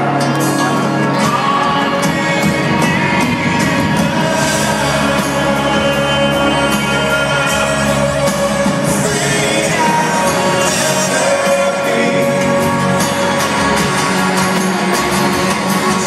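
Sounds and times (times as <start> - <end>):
live band music through pa: 0.0 - 16.0
person singing: 0.0 - 16.0.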